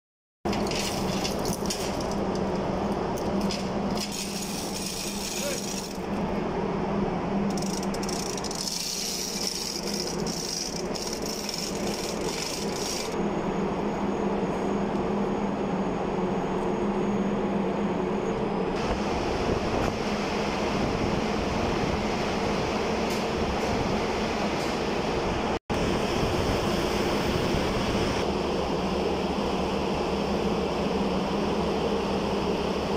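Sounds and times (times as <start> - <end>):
machinery drone: 0.5 - 32.9.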